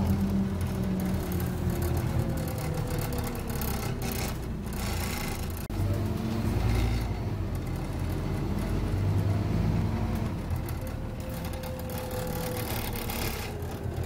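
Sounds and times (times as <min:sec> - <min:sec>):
bus engine drone: 0:00.0 - 0:14.0
road and tyre noise: 0:00.0 - 0:14.0.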